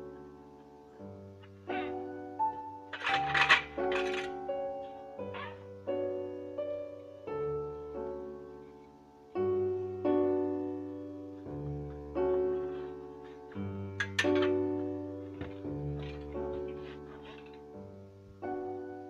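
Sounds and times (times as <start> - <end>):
solo classical piano: 0.0 - 19.0.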